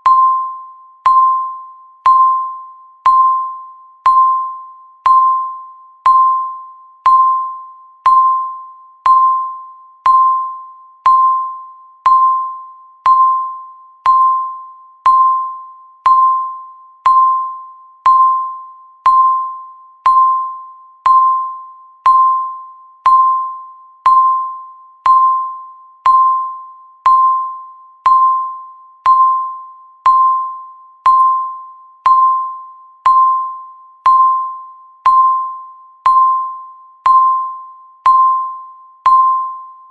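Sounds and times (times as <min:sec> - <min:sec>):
timer beep: 0:00.0 - 0:39.9.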